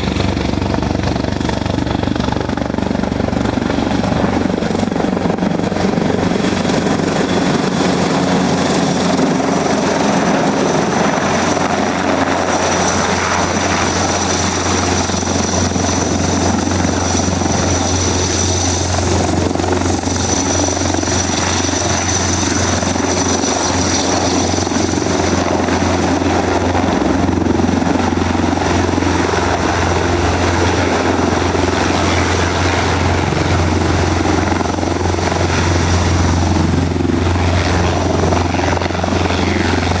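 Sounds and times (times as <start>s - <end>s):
helicopter rotor drone: 0.0s - 40.0s.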